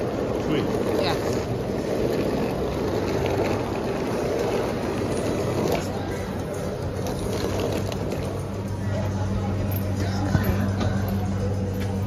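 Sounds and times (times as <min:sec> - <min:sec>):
hum of vehicles: 0:00.0 - 0:12.0
suitcase wheels rolling on concrete: 0:00.0 - 0:12.0.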